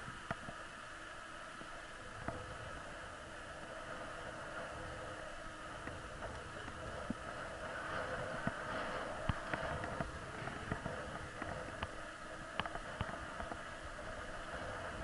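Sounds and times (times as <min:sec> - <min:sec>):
bicycle tyres rushing hiss: 0:00.0 - 0:15.0.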